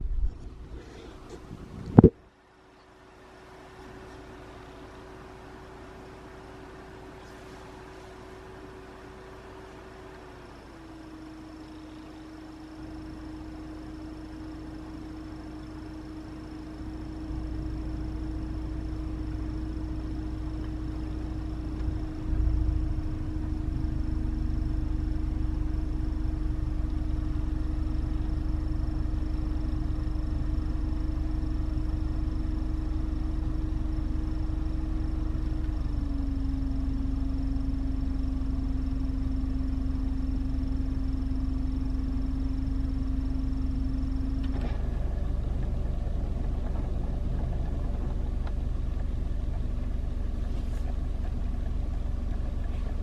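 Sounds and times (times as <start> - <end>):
air conditioner whine: 0.0 - 53.0
car engine idling: 0.0 - 53.0.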